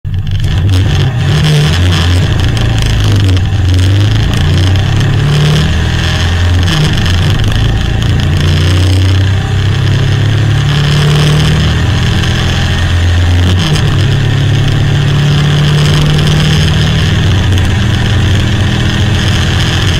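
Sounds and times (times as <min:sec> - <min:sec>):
sports car engine accelerating: 0:00.1 - 0:19.9.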